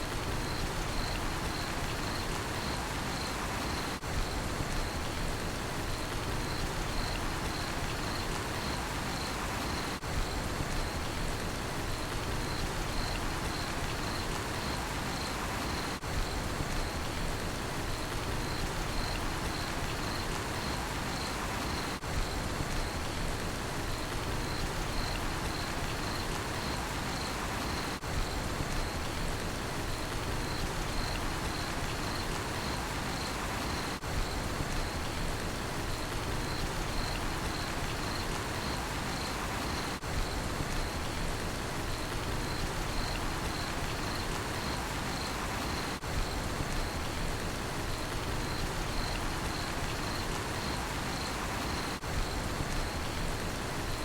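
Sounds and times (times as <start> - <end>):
steady rain falling: 0.0 - 54.0
cricket chirping: 0.2 - 5.2, 5.9 - 11.2, 11.9 - 17.2, 18.3 - 23.1, 23.9 - 29.2, 29.9 - 41.2, 41.8 - 54.0.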